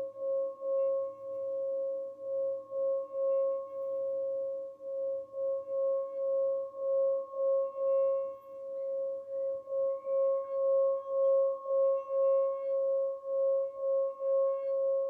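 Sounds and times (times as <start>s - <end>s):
singing bowl ringing tone: 0.0s - 15.0s.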